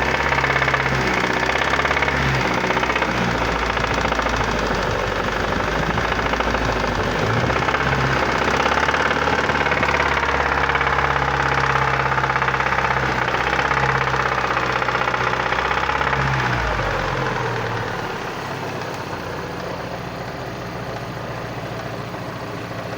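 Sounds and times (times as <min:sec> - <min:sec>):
car engine running: 0:00.0 - 0:22.9.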